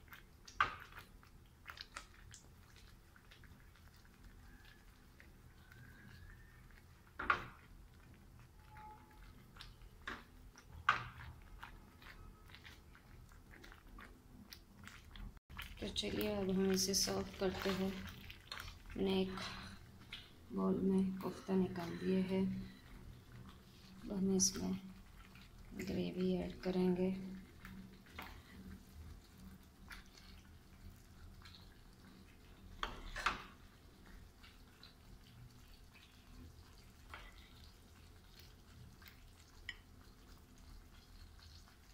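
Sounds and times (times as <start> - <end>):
gravy dripping and plopping: 0.0 - 41.9.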